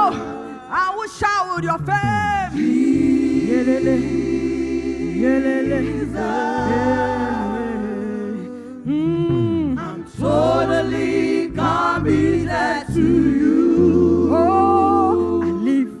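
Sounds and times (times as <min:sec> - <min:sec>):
low backing notes: 0:00.0 - 0:15.8
voices singing gospel song: 0:00.0 - 0:16.0.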